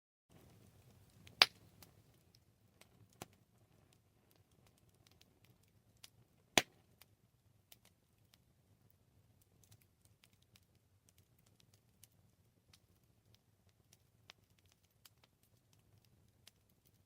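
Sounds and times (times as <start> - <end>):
campfire crackling: 0.3 - 17.0.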